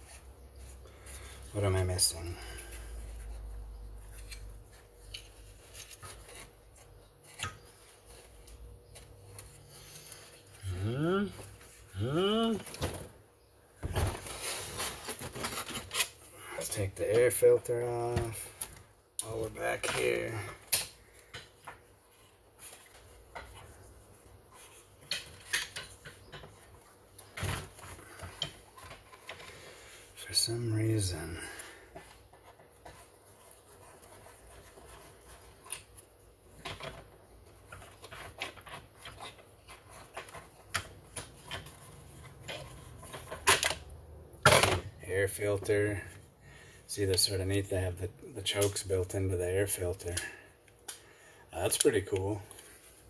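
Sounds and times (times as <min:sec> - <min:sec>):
plastic and metal parts rubbing: 0:00.0 - 0:13.1, 0:14.0 - 0:43.9.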